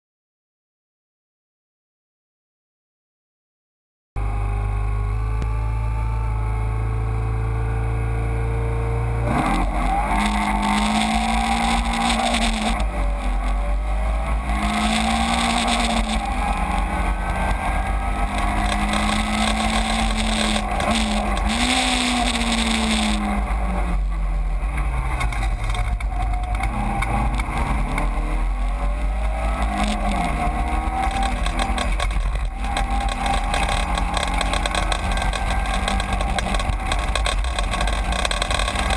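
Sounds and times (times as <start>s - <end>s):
race car engine accelerating: 4.2s - 38.9s.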